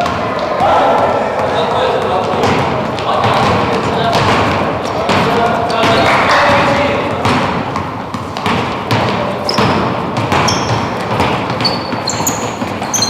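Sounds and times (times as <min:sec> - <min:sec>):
ball bouncing on floor: 0:00.0 - 0:13.0
hubbub of players: 0:00.0 - 0:13.0
sneaker squeaks: 0:00.0 - 0:13.0.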